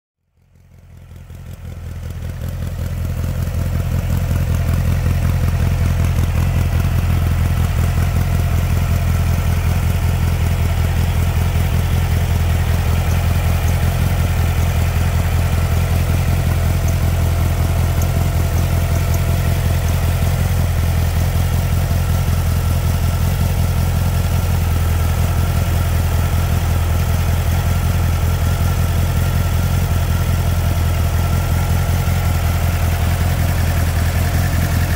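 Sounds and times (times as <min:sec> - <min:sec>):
car engine idling: 0:00.3 - 0:34.9.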